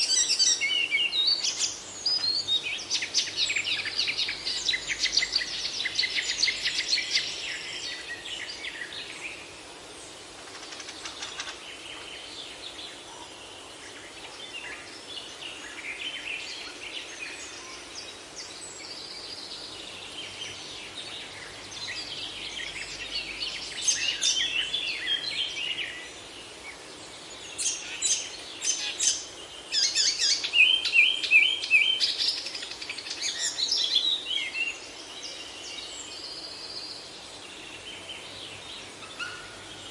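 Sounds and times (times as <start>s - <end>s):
songbirds singing and chirping: 0.0s - 39.9s
steady background hiss: 0.0s - 39.9s.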